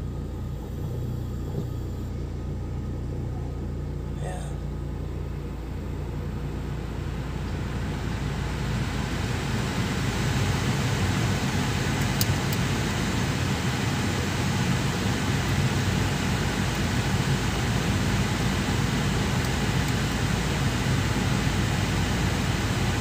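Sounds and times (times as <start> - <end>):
blower fan rushing: 0.0 - 23.0
car engine idling hum: 0.0 - 23.0.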